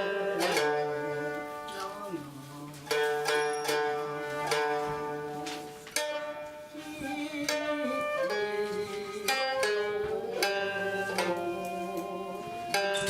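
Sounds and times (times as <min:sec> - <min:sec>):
koto plucked notes: 0:00.0 - 0:06.8, 0:07.4 - 0:13.0.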